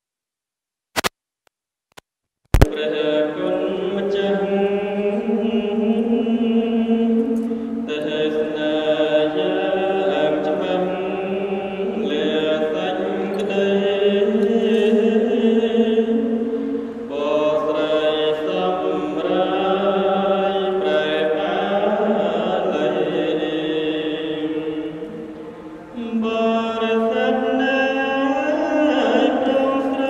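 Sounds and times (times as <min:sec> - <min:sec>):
monk chanting through microphone: 0:02.6 - 0:30.0.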